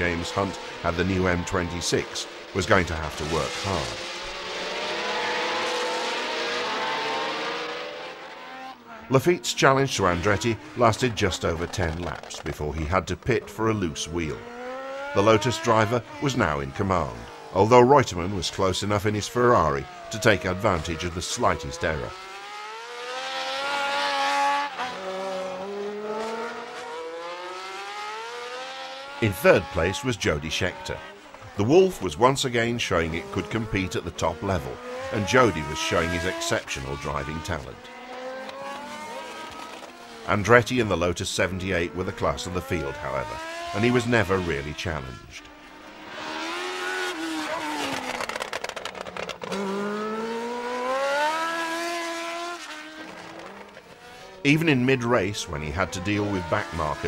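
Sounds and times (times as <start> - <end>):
racing car engine at high revs: 0.0 - 57.0.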